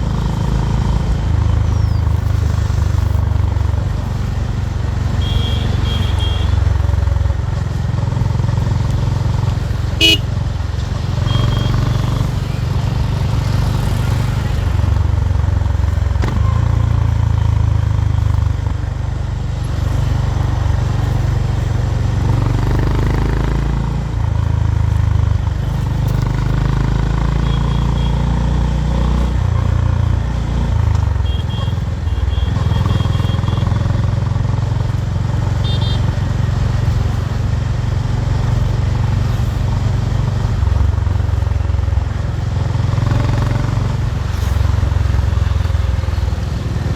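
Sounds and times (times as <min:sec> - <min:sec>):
motorcycle engine and exhaust: 0:00.0 - 0:46.9.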